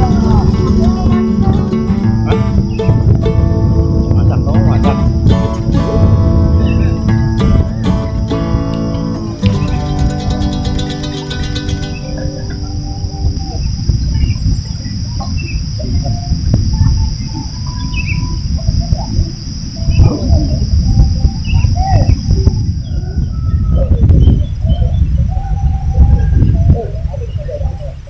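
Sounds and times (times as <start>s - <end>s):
heavy low rumble: 0.0s - 27.5s
birds chirping and calling: 0.0s - 28.0s
steady high-pitched hiss: 0.0s - 28.0s.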